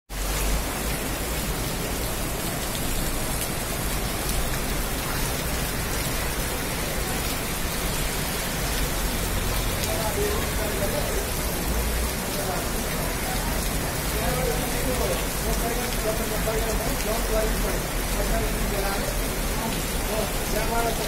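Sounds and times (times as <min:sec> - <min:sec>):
heavy rain on pavement: 0:00.1 - 0:21.0.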